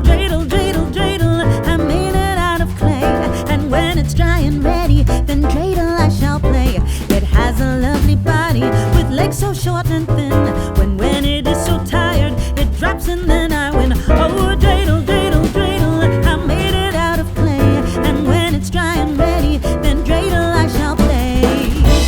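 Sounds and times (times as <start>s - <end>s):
pop song with singing: 0.0s - 22.0s.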